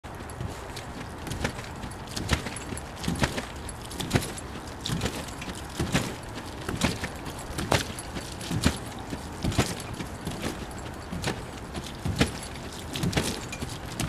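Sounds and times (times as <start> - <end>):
trampoline mat thuds and splashes: 0.4 - 14.0.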